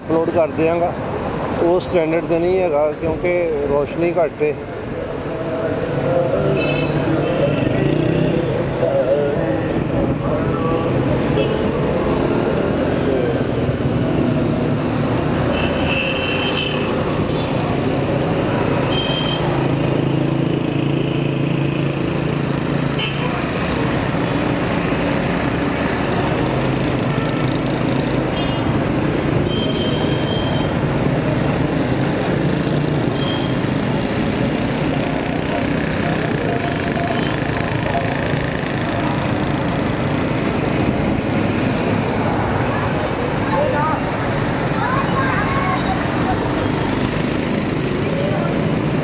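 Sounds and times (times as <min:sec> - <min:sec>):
wind and road noise: 0:00.0 - 0:49.0.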